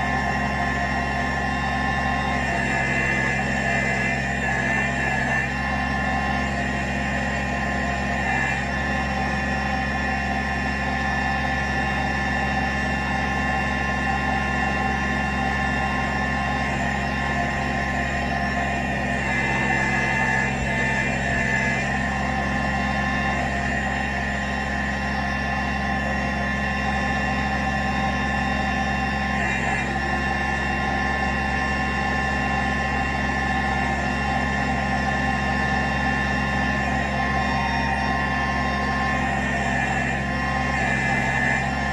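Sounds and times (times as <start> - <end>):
steady whine: 0.0 - 41.9
tractor diesel engine running: 0.0 - 41.9.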